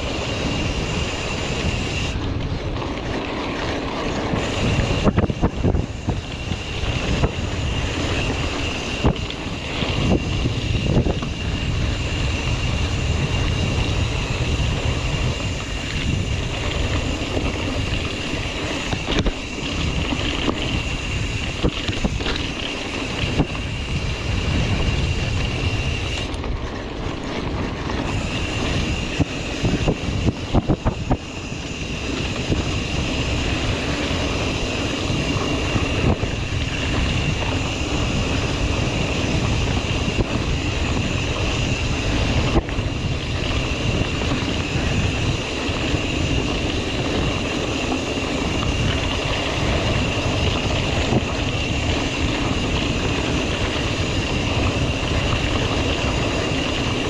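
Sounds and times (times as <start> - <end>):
bike knocks and rattles: 0.0 - 57.0
bike tyres rolling on dirt: 0.0 - 57.0
wind buffeting microphone: 0.0 - 57.0.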